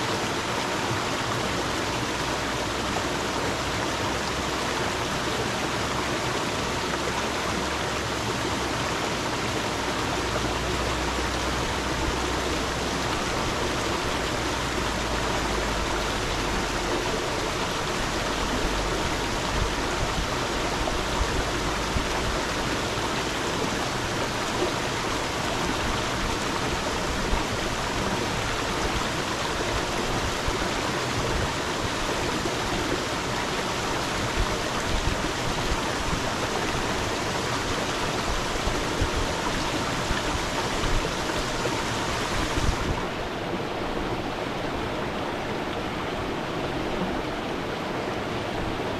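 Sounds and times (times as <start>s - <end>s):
water splashes: 0.0s - 48.1s
stream flowing: 0.0s - 48.9s.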